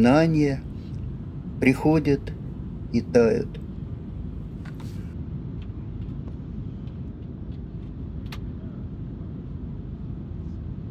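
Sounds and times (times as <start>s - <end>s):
airliner engine and airflow rumble: 0.0s - 10.9s.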